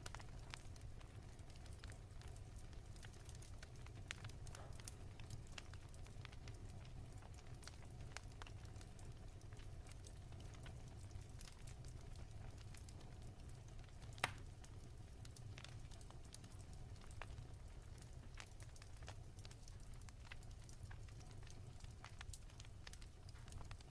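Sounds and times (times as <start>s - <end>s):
low fire rumble: 0.0s - 23.9s
wood fire crackling: 0.0s - 23.9s.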